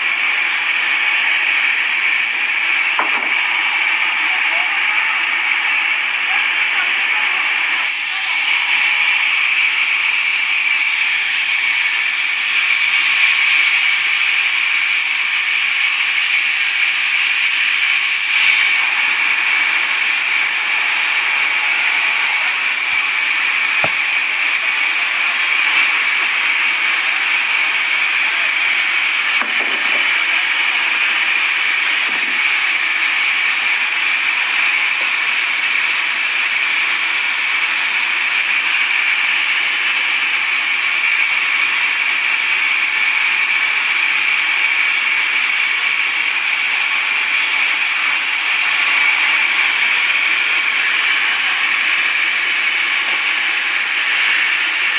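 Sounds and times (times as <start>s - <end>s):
saw blade cutting log: 0.0s - 54.9s.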